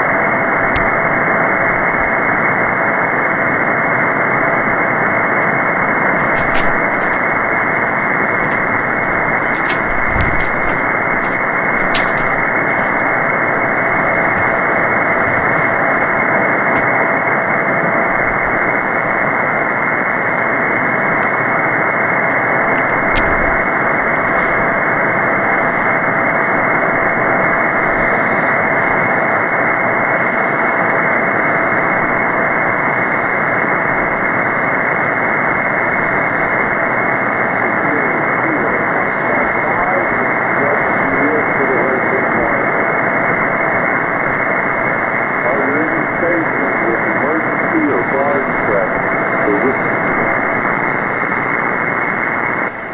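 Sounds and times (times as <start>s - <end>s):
radio receiver hiss: 0.0s - 52.9s
sharp static clicks: 0.0s - 52.9s.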